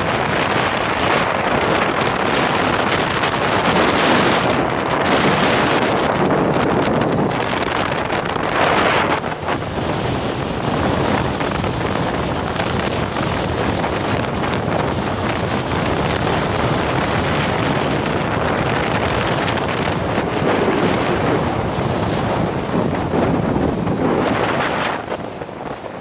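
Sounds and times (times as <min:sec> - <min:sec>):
storm surf washing in: 0:00.0 - 0:26.0
wind buffeting microphone: 0:00.0 - 0:26.0.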